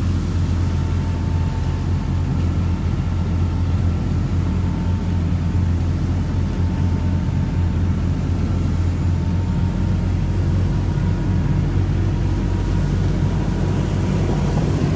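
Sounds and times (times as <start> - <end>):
boat diesel engine drone: 0.0 - 14.9
water rushing along hull: 0.0 - 14.9.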